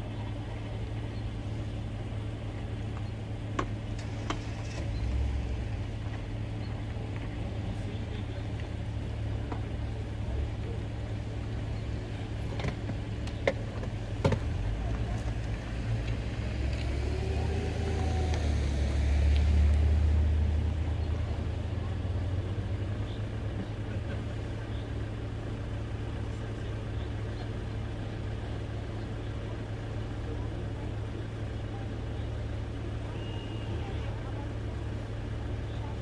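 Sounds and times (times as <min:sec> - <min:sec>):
car moving off: 0:00.0 - 0:36.0
low engine hum: 0:00.0 - 0:36.0.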